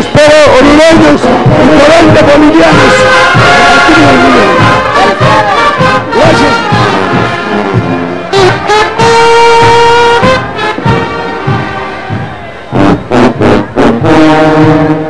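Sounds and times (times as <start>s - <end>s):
brass band playing parade music: 0.0s - 15.0s.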